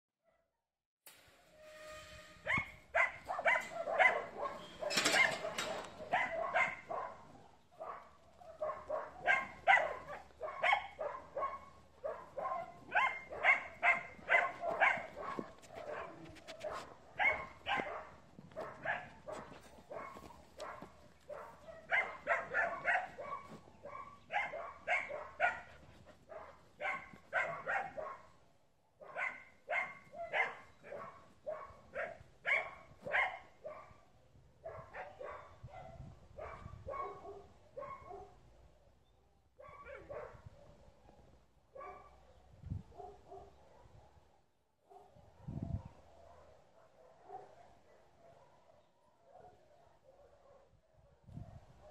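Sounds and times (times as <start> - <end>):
dog barking: 2.4 - 28.4, 29.0 - 38.4, 39.6 - 51.9.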